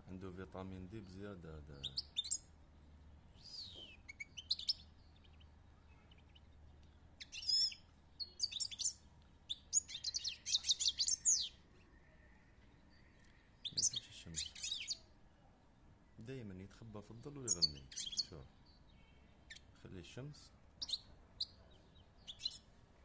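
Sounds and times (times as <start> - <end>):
finch singing: 1.0 - 2.5, 3.4 - 15.1, 16.0 - 20.0, 20.8 - 22.7.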